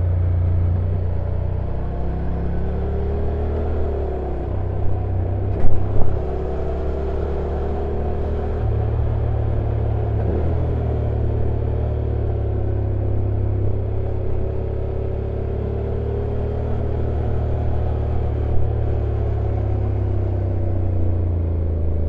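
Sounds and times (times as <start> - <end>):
motorcycle engine running: 0.0 - 22.0
road and wind noise: 0.0 - 22.0.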